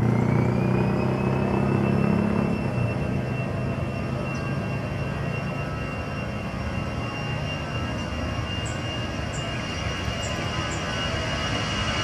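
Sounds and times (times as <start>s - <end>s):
high engine whine: 0.0s - 12.0s
jet engine roar: 0.0s - 12.0s.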